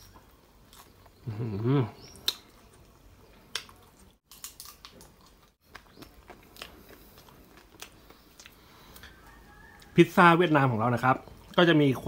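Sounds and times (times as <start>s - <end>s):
crunchy chewing: 0.0s - 11.7s.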